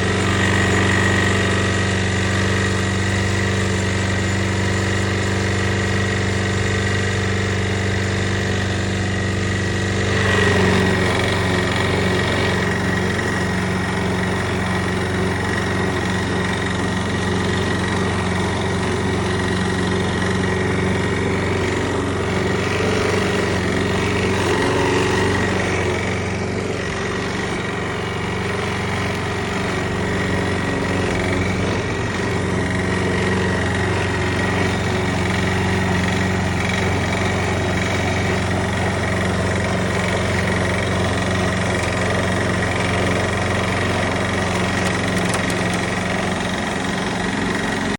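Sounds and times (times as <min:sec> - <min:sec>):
lawn mower engine running: 0:00.0 - 0:47.9.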